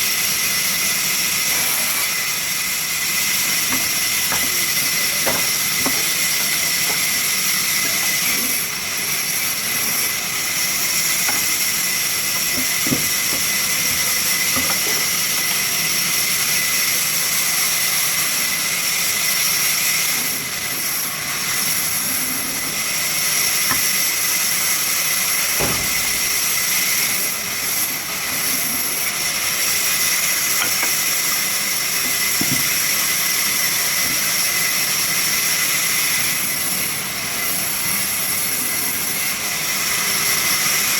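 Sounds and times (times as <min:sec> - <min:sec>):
sawmill saw whining: 0:00.0 - 0:40.9.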